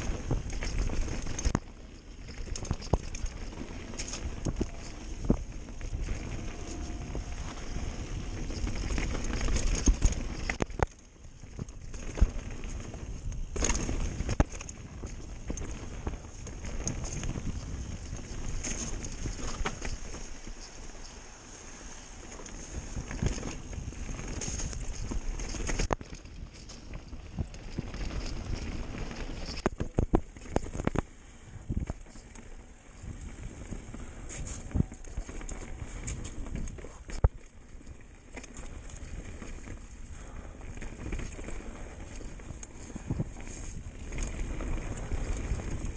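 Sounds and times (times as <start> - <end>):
bike knocks and rattles: 0.0 - 21.2, 22.3 - 45.9.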